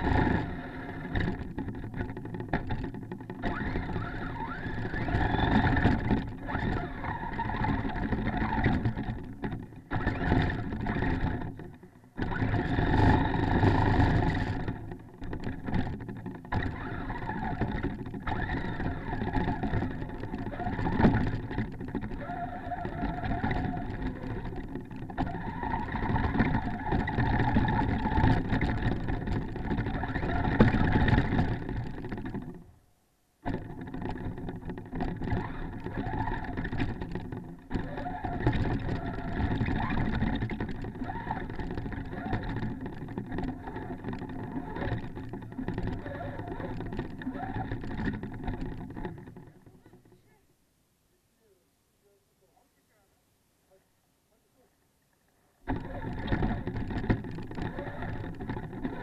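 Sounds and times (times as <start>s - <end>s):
rc truck motor: 0.0s - 32.8s, 33.4s - 50.4s, 55.6s - 59.0s.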